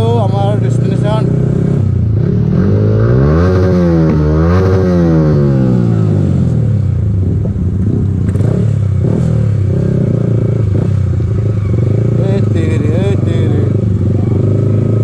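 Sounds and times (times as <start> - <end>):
loud motorcycle engine revving: 0.0 - 15.0.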